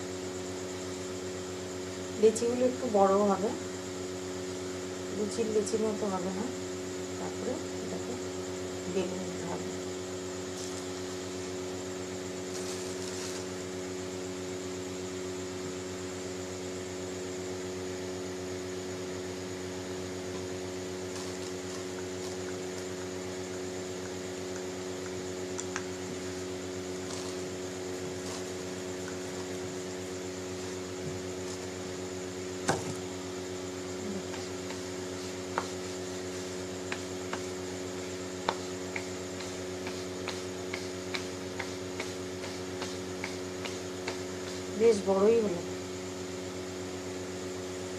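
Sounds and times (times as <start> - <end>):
electrical machine hum: 0.0 - 47.9.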